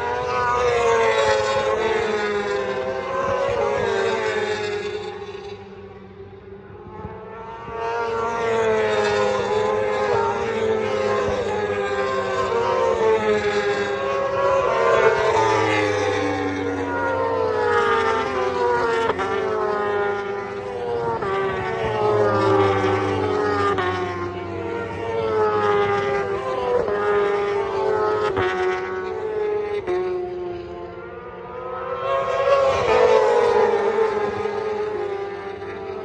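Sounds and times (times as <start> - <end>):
racing motorcycles at full throttle: 0.0 - 36.0.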